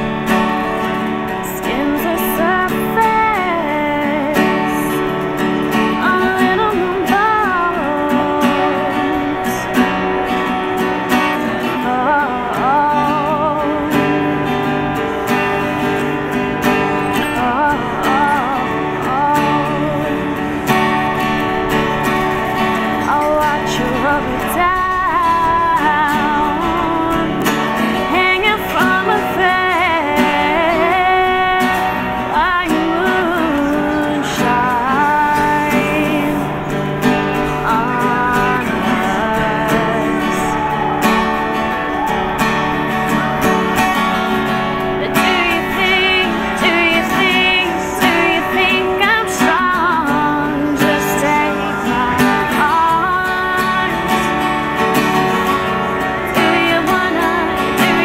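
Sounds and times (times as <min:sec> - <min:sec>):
strummed acoustic guitar: 0:00.0 - 0:58.0
woman singing with vibrato: 0:00.0 - 0:58.0.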